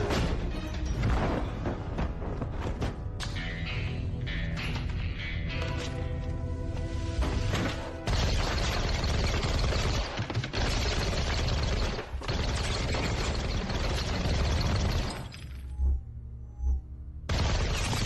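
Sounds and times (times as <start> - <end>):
tense film music: 0.0 - 18.0.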